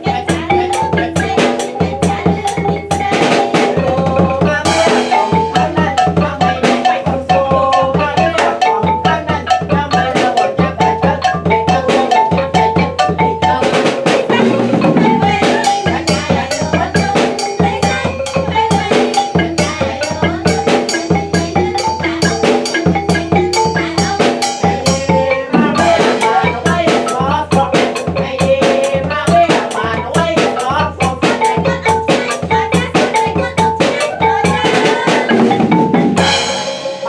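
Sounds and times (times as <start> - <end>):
steady drumbeat: 0.0 - 37.0
xylophone-like melody: 0.0 - 37.0.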